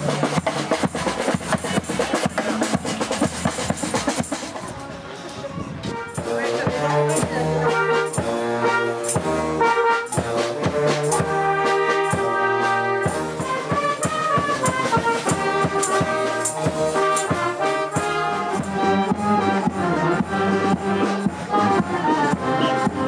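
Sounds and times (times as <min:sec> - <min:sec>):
brass band playing: 0:00.0 - 0:04.7, 0:05.8 - 0:23.0.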